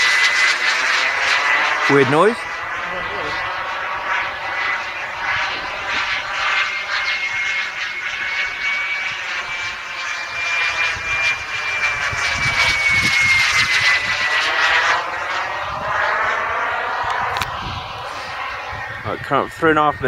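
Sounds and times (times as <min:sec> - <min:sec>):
jet turbine whine and roar: 0:00.0 - 0:20.0.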